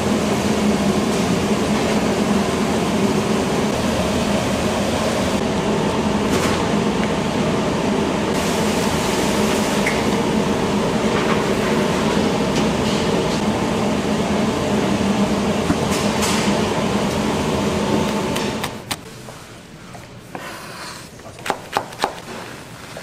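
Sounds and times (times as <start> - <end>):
kitchen machinery hum: 0.0 - 23.0.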